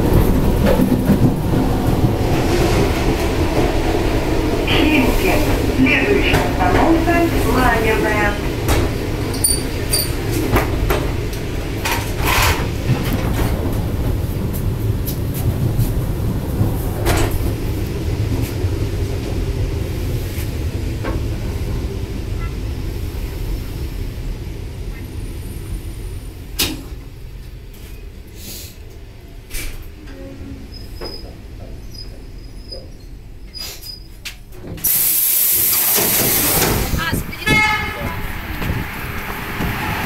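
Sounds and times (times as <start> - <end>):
train interior rumble: 0.0 - 40.0.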